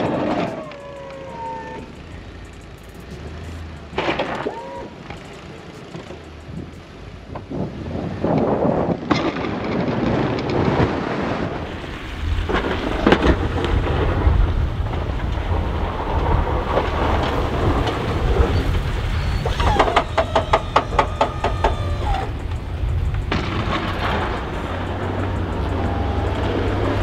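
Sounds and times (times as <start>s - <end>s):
rapid clicks: 0.0s - 7.4s, 11.5s - 27.0s
snow plow truck rumbling: 0.0s - 27.0s
wind buffeting microphone: 0.0s - 27.0s.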